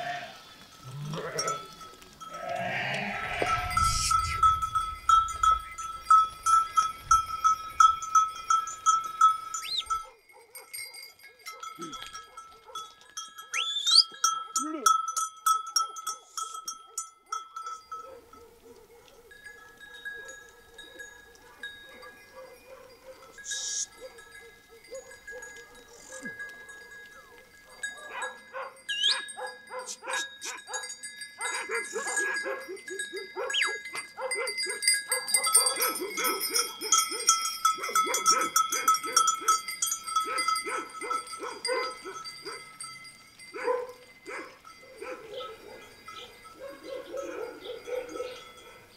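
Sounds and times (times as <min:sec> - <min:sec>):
sheep bells ringing: 0:00.0 - 0:48.9.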